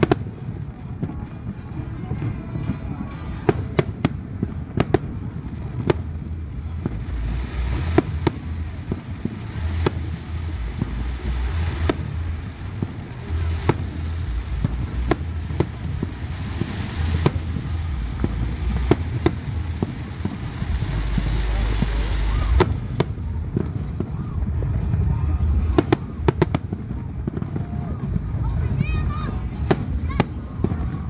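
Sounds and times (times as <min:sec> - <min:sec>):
deep rumble: 0:00.0 - 0:31.0
fireworks bangs and cracks: 0:00.0 - 0:31.0.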